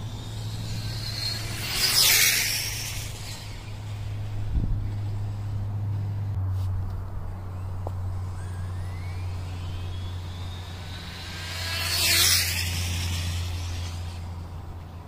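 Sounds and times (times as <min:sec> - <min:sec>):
rc car motor whine: 0:00.0 - 0:06.3, 0:07.4 - 0:15.0
low hum: 0:00.0 - 0:15.0.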